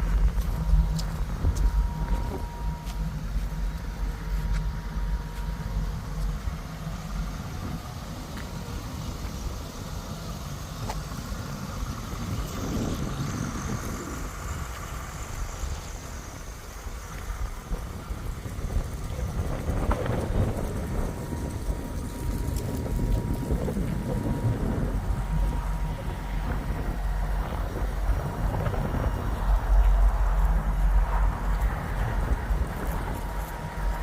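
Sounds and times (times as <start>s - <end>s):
vee eight exhaust rumble: 0.0s - 34.0s.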